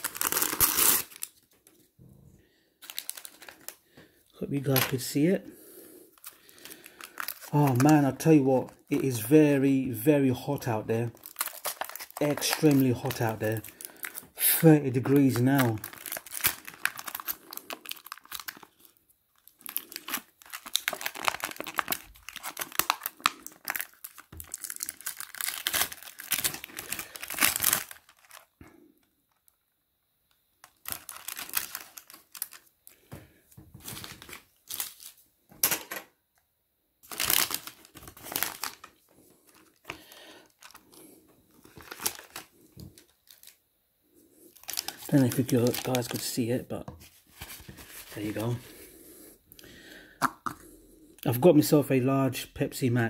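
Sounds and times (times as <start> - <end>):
plastic packaging crinkling: 0.0 - 1.9, 2.8 - 5.4, 6.1 - 28.6, 30.6 - 36.0, 37.0 - 43.6, 44.5 - 48.8.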